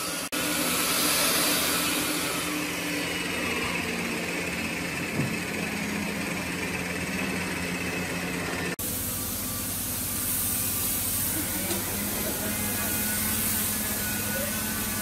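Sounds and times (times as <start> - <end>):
belt sander running: 0.0 - 15.0.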